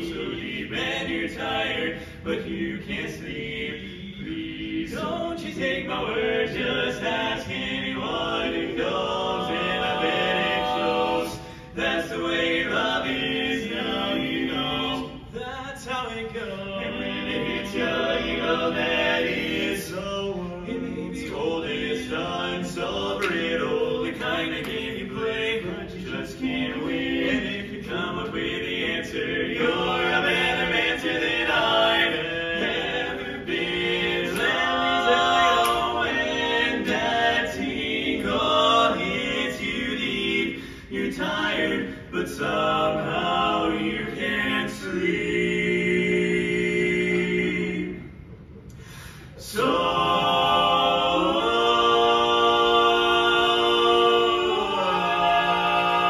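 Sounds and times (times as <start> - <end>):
male voices singing in harmony: 0.0 - 48.1, 49.3 - 56.0.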